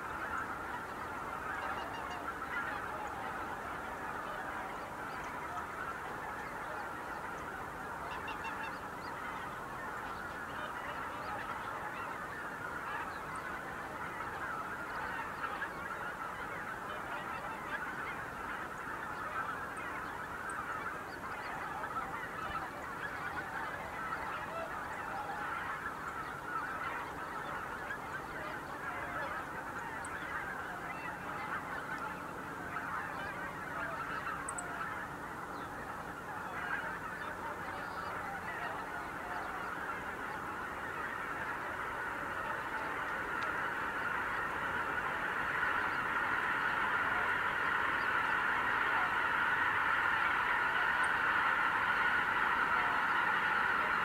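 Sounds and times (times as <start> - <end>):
flock of geese calling: 0.0 - 54.0.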